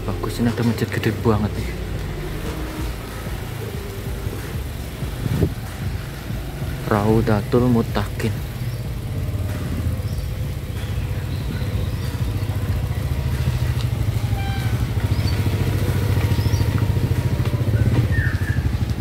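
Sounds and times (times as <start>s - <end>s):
bicycle riding rumble and flutter: 0.0s - 19.0s
car passing close by: 0.0s - 19.0s.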